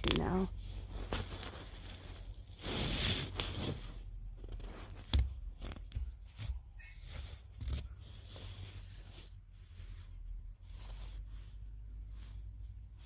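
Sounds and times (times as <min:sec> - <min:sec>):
insulation rustling and crunching: 0:00.0 - 0:13.0.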